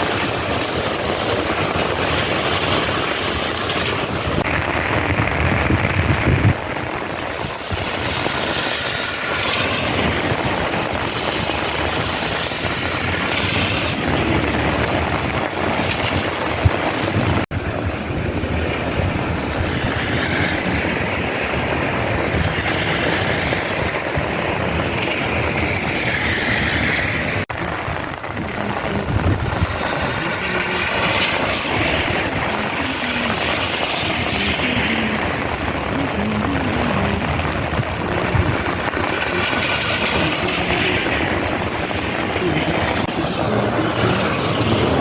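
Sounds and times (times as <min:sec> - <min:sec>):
heavy rain: 0:00.0 - 0:45.0
wind buffeting microphone: 0:00.0 - 0:45.0.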